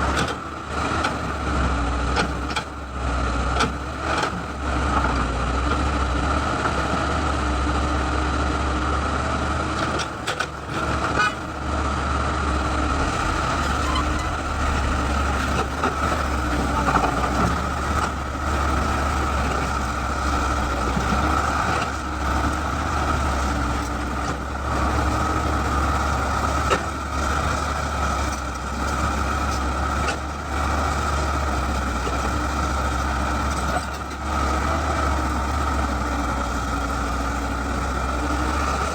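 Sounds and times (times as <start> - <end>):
diesel engine running with whine: 0.0 - 38.9.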